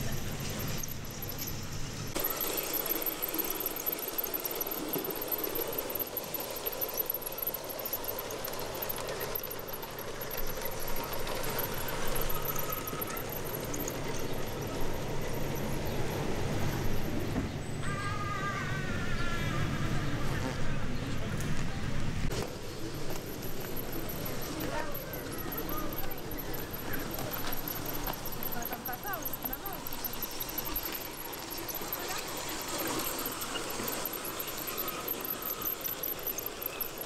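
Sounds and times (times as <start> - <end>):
pulsing high-pitched squeal: 0.0 - 17.2, 22.6 - 37.0
model train rolling on track: 0.0 - 37.0.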